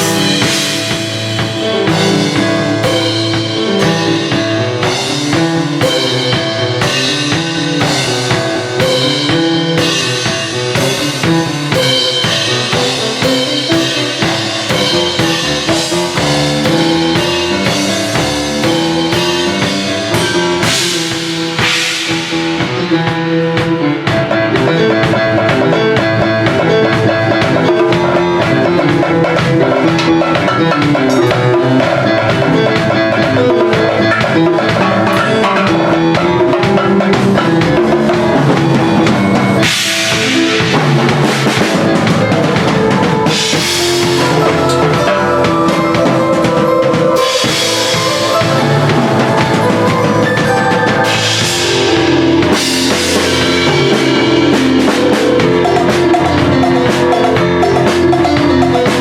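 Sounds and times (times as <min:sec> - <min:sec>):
drum kit playing: 0:00.0 - 0:59.0
piano chords and melody: 0:00.0 - 0:59.0.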